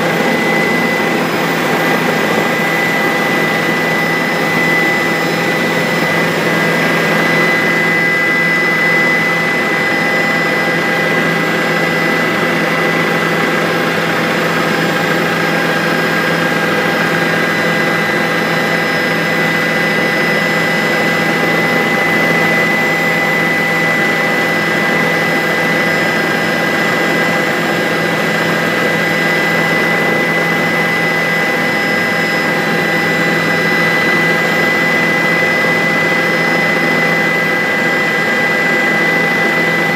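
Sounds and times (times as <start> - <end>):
high whine: 0.0 - 16.2, 16.9 - 39.9
helicopter in flight: 0.0 - 39.9.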